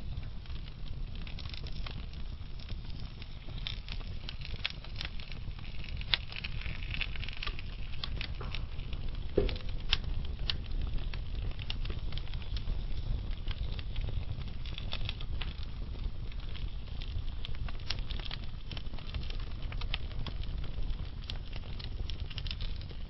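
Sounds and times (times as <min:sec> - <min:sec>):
burning logs crackling and popping: 0:00.0 - 0:23.0
fire flames rumbling: 0:00.0 - 0:23.0.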